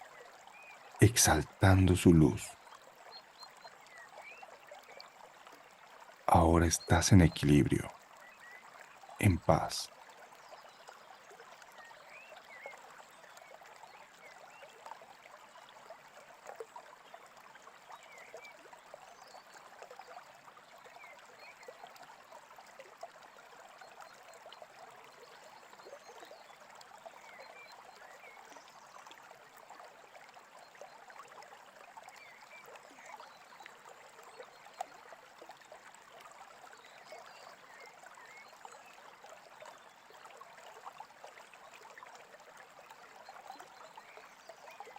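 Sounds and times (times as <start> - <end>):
small stream babbling: 0.0 - 44.9.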